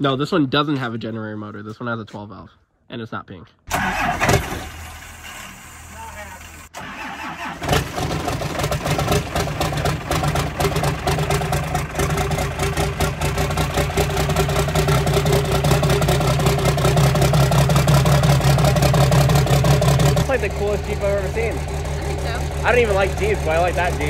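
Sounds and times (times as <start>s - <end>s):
diesel engine idling: 3.7s - 24.0s.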